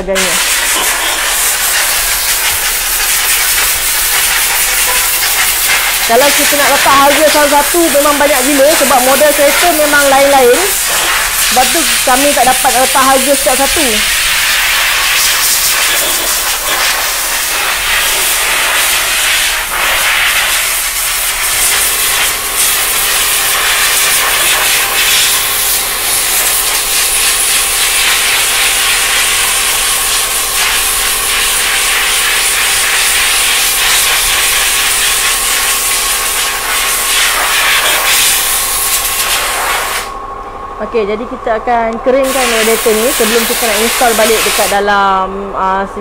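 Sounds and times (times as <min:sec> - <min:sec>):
compressed air hissing: 0:00.0 - 0:40.2, 0:42.2 - 0:44.9
steady hum: 0:00.0 - 0:46.0.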